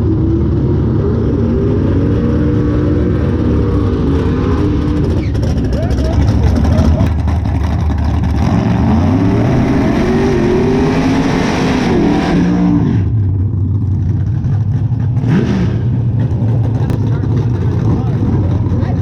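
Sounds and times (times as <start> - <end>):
low engine rumble: 0.0 - 19.0
racing car engine roaring: 0.0 - 19.0.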